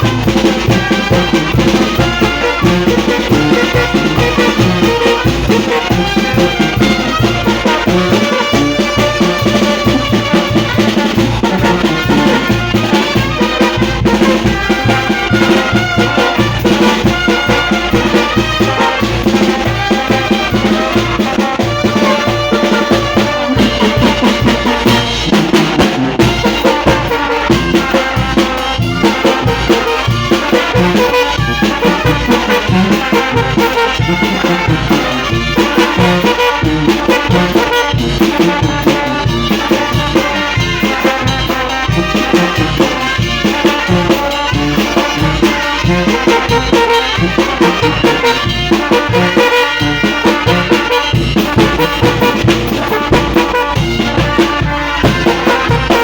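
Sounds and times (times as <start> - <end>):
brass band playing: 0.0 - 56.0
drums: 0.0 - 56.0.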